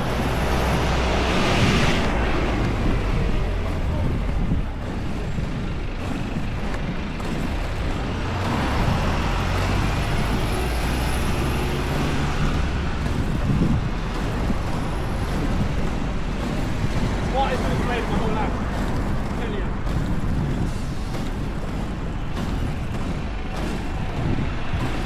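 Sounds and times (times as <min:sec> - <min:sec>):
traffic rumble: 0:00.0 - 0:25.0
wheels rolling on tarmac: 0:00.0 - 0:25.0.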